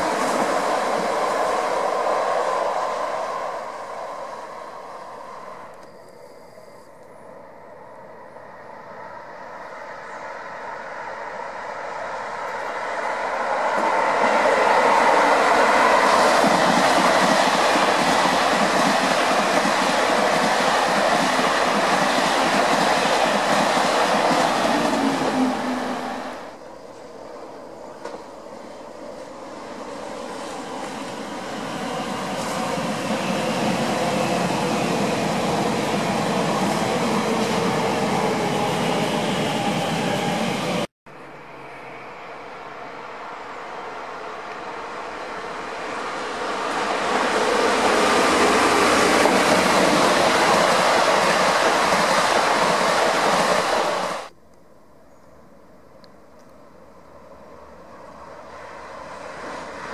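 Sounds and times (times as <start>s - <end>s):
electric train passing: 0.0s - 54.4s, 57.0s - 59.9s.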